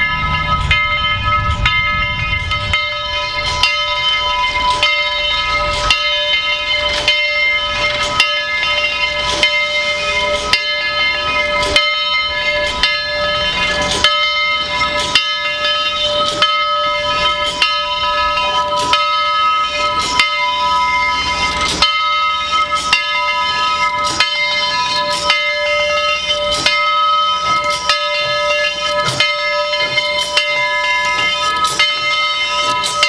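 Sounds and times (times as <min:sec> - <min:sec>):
locomotive bell ringing: 0:00.0 - 0:33.0
train rumble: 0:00.0 - 0:33.0.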